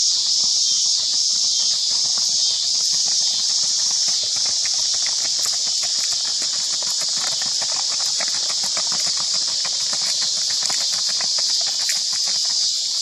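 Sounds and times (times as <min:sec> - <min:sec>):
hoofbeats on gravel: 0:00.0 - 0:13.0.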